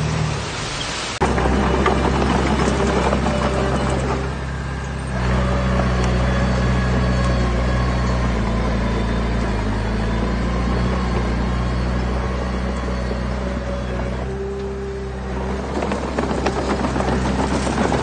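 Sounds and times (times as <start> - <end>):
heavy diesel engine running: 1.2 - 18.0.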